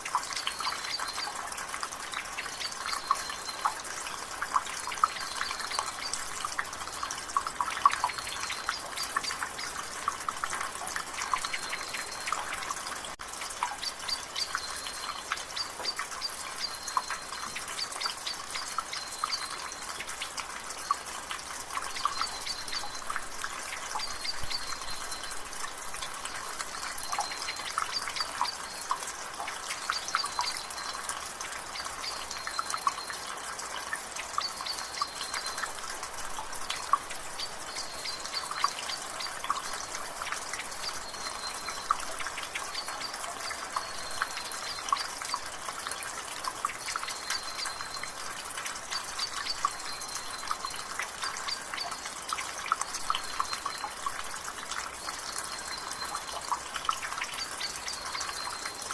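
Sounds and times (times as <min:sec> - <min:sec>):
light rain hiss: 0:00.0 - 0:58.9
water dripping from gutter: 0:00.0 - 0:58.9.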